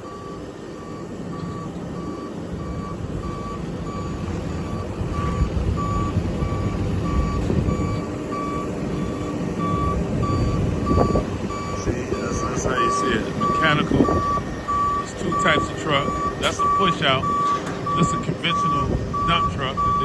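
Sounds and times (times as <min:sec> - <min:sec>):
truck backup alarm beeping: 0:00.0 - 0:20.0
truck engine running: 0:00.0 - 0:20.0.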